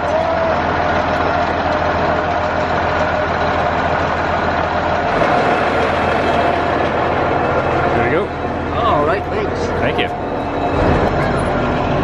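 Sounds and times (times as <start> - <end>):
train engine idling: 0.0 - 12.0.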